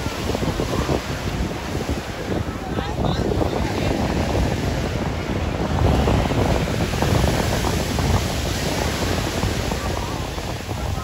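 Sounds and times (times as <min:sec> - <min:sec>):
surf washing onto sand: 0:00.0 - 0:11.0
wind buffeting microphone: 0:00.0 - 0:11.0.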